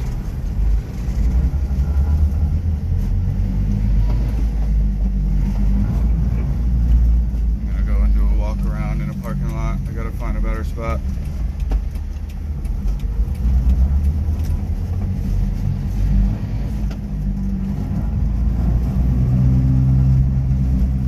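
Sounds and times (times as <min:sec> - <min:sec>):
tires rumbling: 0:00.0 - 0:21.0
truck engine running: 0:00.0 - 0:21.0.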